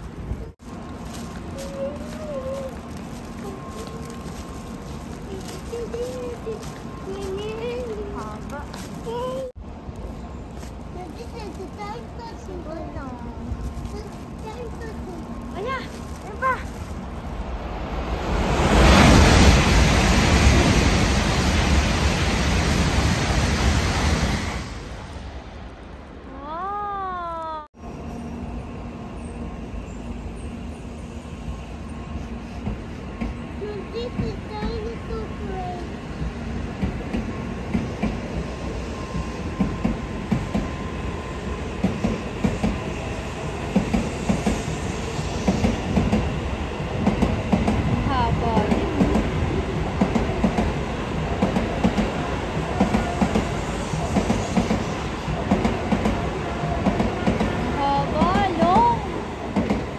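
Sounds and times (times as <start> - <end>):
high-speed train passing: 0.0 - 59.9.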